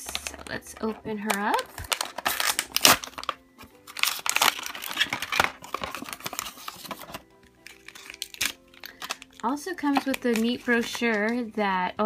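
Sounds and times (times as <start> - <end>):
plastic packaging crinkling: 0.0 - 11.5
cardboard tearing: 0.1 - 11.1.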